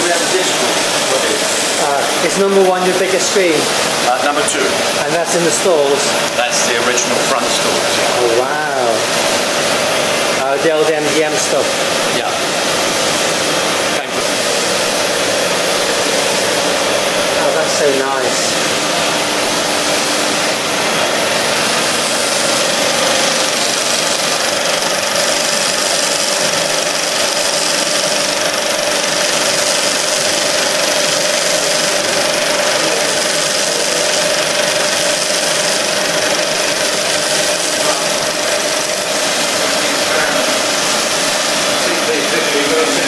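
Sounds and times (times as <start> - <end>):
film projector whirring: 0.0 - 43.0.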